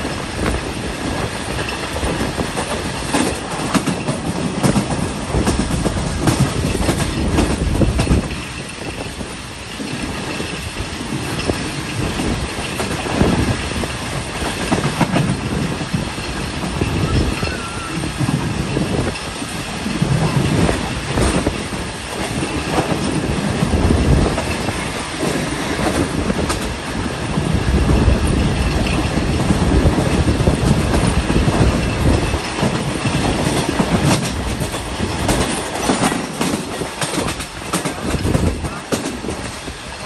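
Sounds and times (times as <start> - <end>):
train coaches rumbling: 0.0 - 40.0
wheels clacking over rail joints: 0.0 - 40.0.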